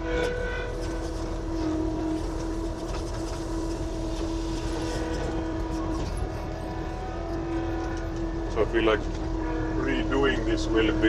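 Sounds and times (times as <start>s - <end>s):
compact loader engine rumble: 0.0s - 11.0s.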